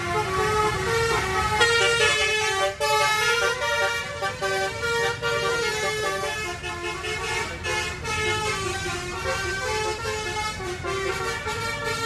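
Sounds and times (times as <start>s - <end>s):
engine and traffic rumble: 0.0s - 12.0s.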